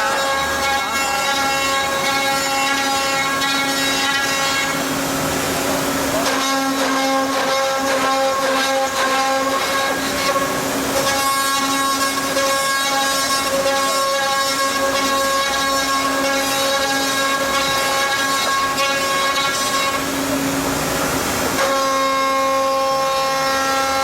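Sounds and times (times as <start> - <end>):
cutters rasping wood: 0.0 - 4.9, 6.1 - 20.5.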